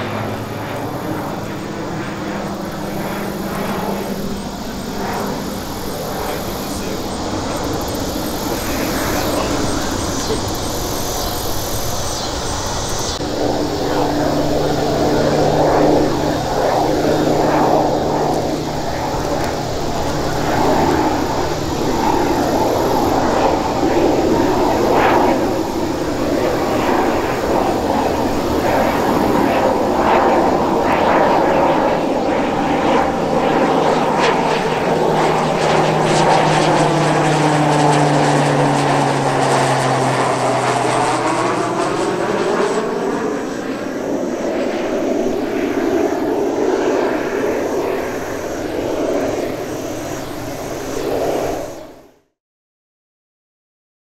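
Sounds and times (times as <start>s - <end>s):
turboprop engine and propeller: 0.0s - 52.4s.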